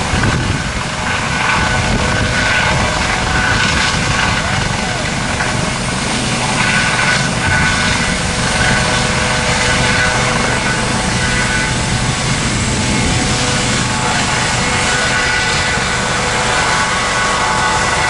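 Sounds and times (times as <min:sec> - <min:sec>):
large engine running: 0:00.0 - 0:18.0.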